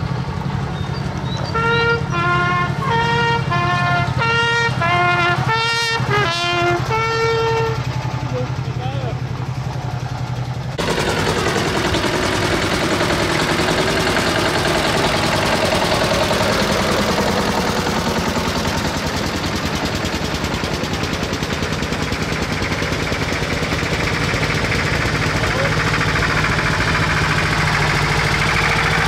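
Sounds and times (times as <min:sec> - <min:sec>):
tractor engines chugging: 0:00.0 - 0:29.0.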